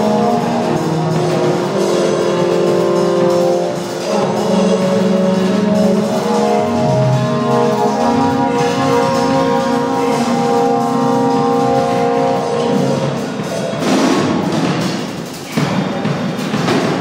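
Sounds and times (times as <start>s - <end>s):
droning held tones: 0.0s - 13.8s
harsh noise: 0.0s - 17.0s.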